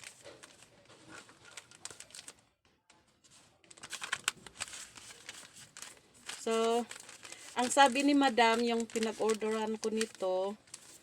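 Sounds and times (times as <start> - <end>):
packaging taps and crinkles: 0.0 - 3.0, 3.6 - 11.0.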